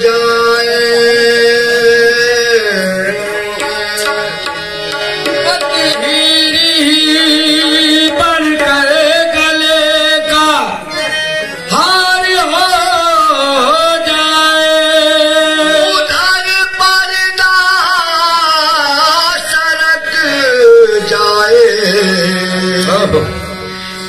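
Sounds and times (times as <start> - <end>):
harmonium: 0.0 - 24.0
man singing ornamented notes: 0.0 - 24.0.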